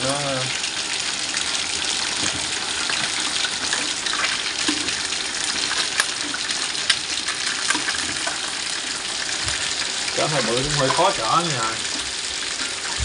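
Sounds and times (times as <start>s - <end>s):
oil sizzling deep-frying fish: 0.0s - 13.0s.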